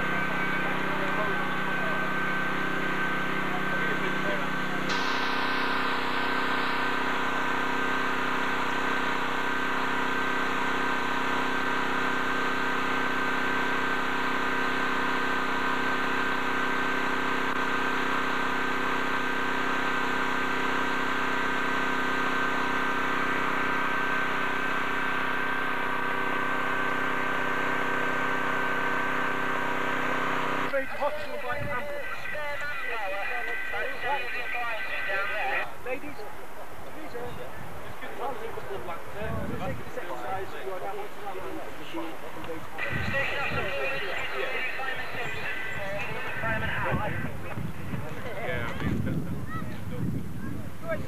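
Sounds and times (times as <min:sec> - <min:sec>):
high whine: 0:00.0 - 0:36.2, 0:38.0 - 0:49.6
engine idling: 0:00.0 - 0:49.3.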